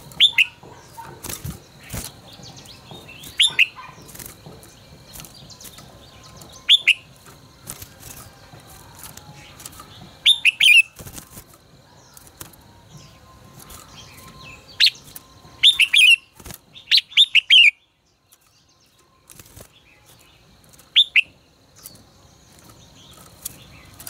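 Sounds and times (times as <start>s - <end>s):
bulbul singing: 0.0s - 24.0s.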